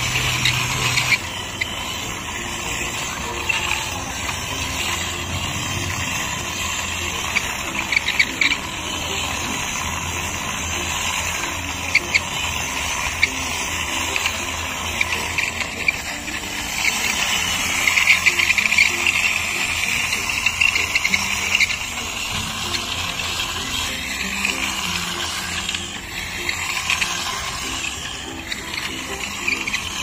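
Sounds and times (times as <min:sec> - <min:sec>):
toy truck rolling on concrete: 0:00.0 - 0:30.0.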